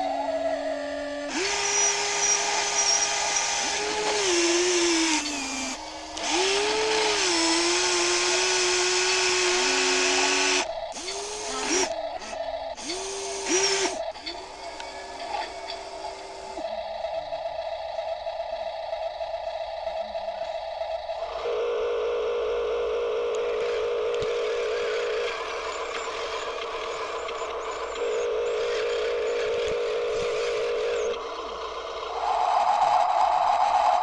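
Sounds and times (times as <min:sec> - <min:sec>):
electric motors whining: 0:00.0 - 0:17.4, 0:21.1 - 0:32.3.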